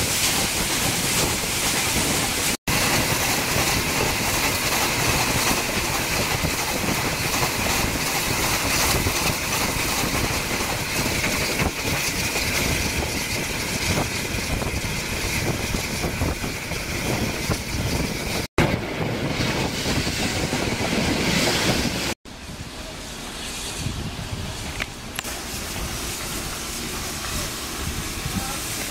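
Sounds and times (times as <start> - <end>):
train noise: 0.0 - 28.9.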